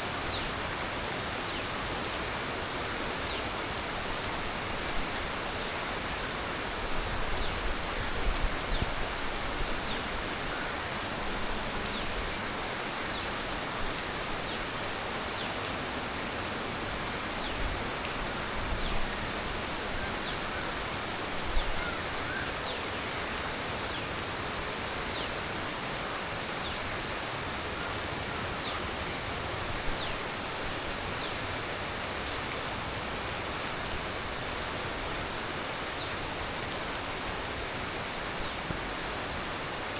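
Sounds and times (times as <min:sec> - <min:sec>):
heavy rain falling: 0:00.6 - 0:39.9.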